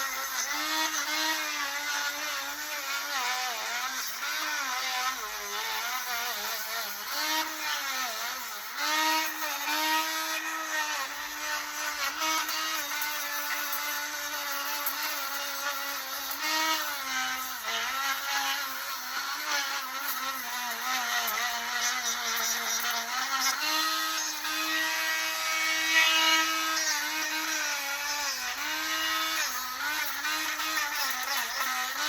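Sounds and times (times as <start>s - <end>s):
belt grinder motor hum: 0.0s - 32.0s
hiss of blade grinding: 0.0s - 32.0s.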